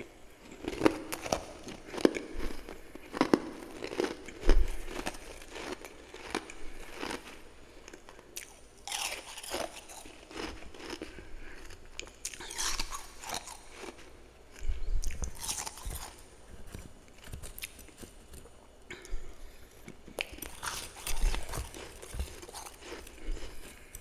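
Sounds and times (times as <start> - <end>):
chewing crunchy freezer frost: 0.0 - 19.2, 19.8 - 24.0.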